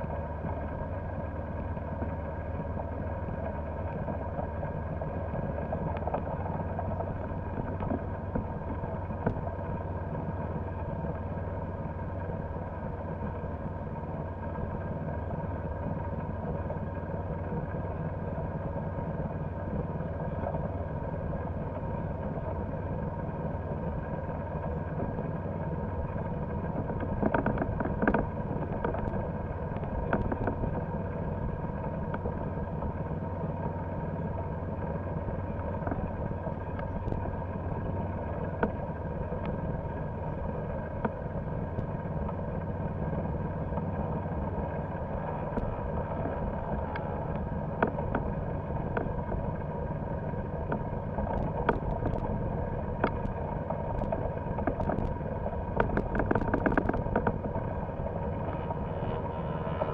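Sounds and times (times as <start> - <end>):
golf cart motor droning: 0.0 - 59.9.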